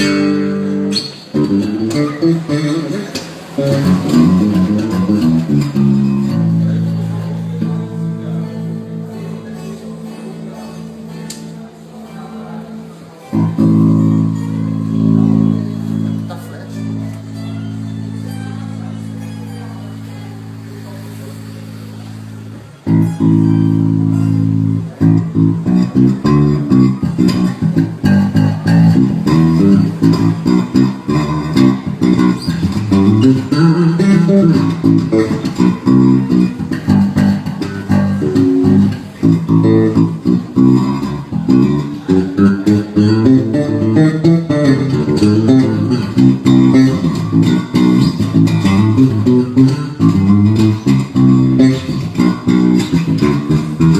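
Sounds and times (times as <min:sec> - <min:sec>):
electric bass guitar playing: 0:00.0 - 0:53.9.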